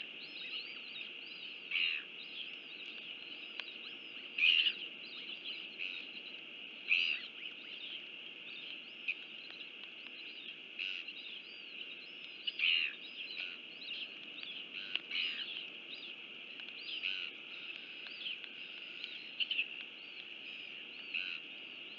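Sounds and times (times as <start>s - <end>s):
low background hiss: 0.0s - 21.9s
small birds chirping: 0.0s - 21.9s.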